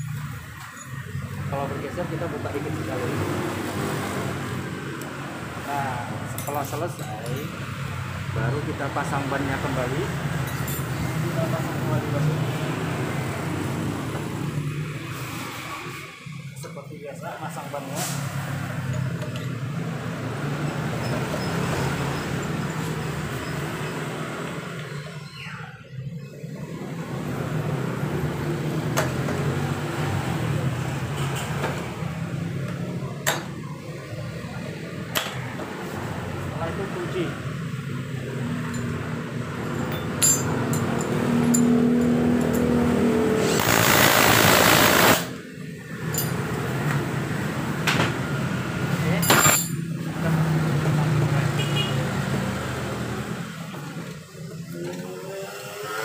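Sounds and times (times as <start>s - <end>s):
low drone of vehicle noise: 0.0s - 56.0s.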